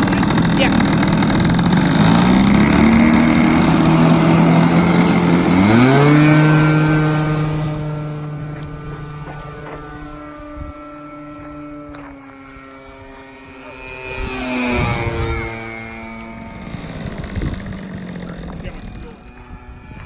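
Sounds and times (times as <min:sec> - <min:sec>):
model plane engine running loud: 0:00.0 - 0:20.0.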